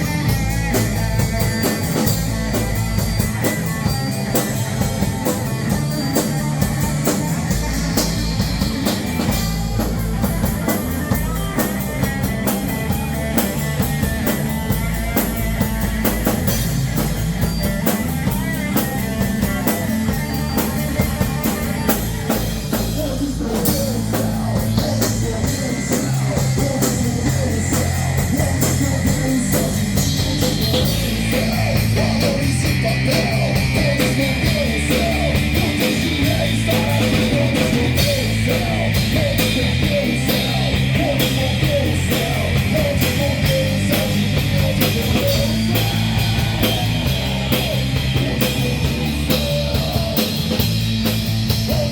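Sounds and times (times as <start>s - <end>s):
drum kit beat: 0.0s - 51.9s
live rock band: 0.0s - 51.9s.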